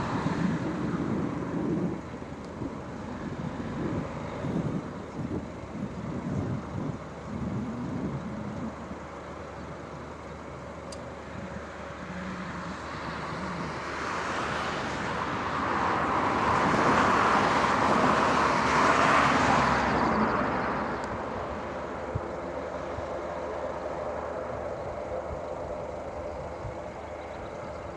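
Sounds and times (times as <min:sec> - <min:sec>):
aircraft passing overhead: 0:00.0 - 0:27.9.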